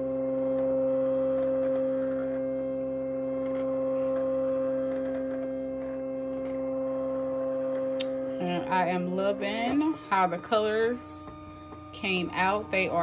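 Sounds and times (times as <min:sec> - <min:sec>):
cutting machine motor whine: 0:00.0 - 0:13.0.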